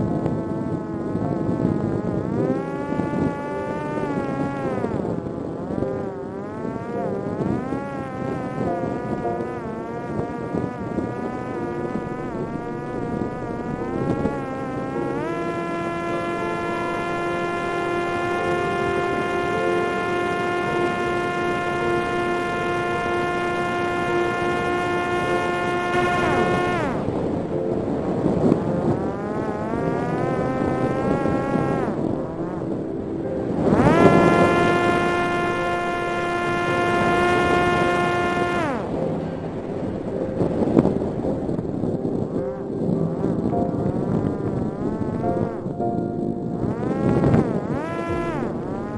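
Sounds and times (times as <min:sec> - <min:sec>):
drone motor buzzing whine: 0:00.0 - 0:48.9.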